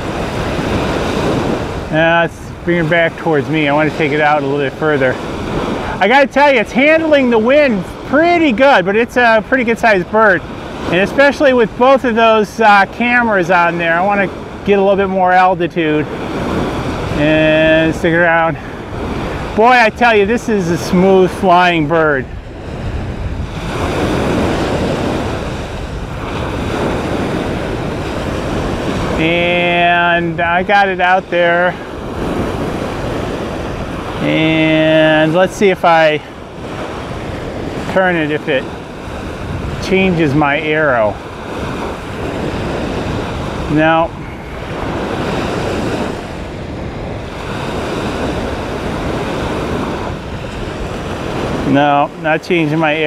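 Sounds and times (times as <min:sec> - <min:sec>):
waves breaking on shore: 0:00.0 - 0:53.0
wind buffeting microphone: 0:00.0 - 0:53.0.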